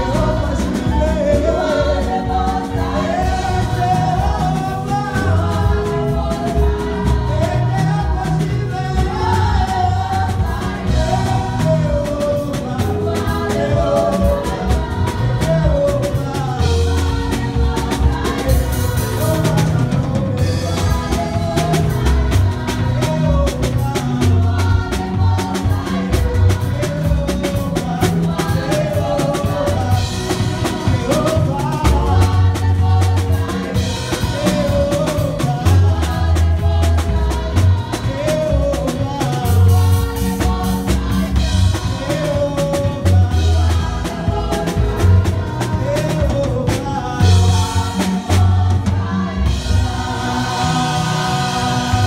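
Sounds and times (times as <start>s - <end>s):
drum kit beat: 0.0s - 52.0s
heavy bass: 0.0s - 52.0s
voices singing: 0.0s - 52.0s.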